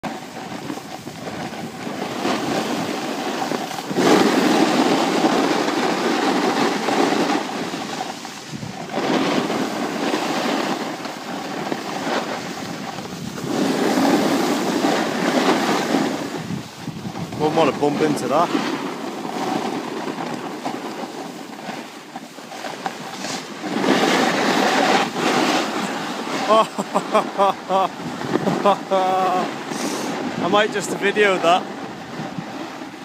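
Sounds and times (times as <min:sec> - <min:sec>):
sliding over packed snow: 0:00.0 - 0:33.0.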